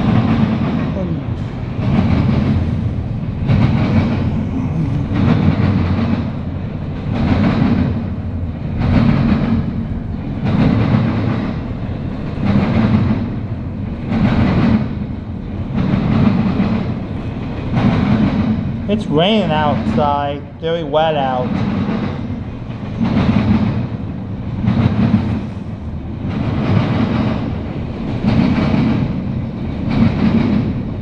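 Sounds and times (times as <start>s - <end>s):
freight train rumbling and clacking: 0.0s - 31.0s.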